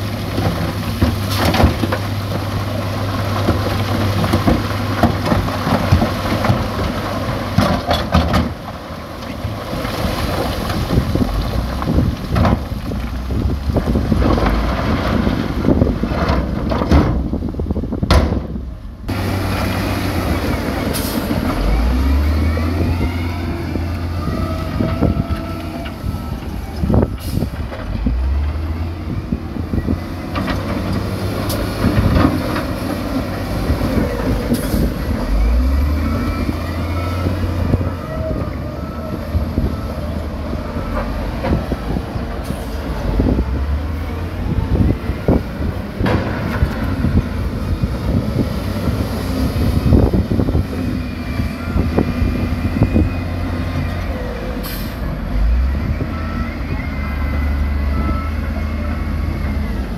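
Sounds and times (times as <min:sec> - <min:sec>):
diesel engine rumble: 0:00.0 - 0:59.9.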